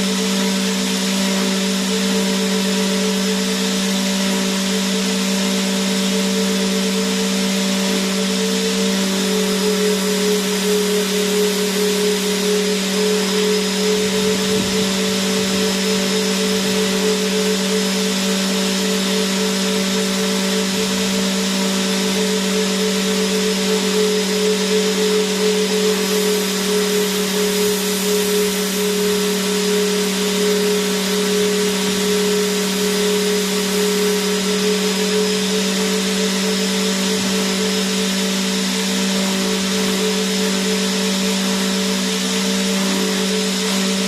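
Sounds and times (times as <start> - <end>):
vacuum cleaner motor running: 0.0 - 44.0.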